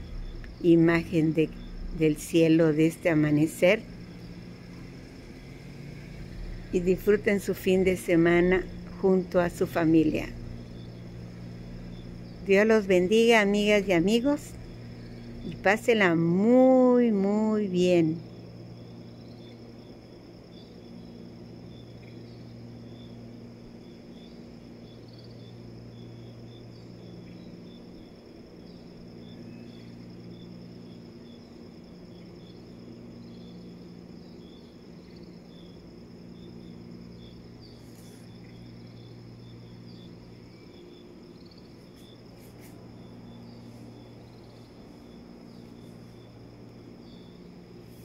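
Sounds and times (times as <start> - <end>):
crickets chirring: 0.0 - 48.0
low hum: 0.0 - 48.0.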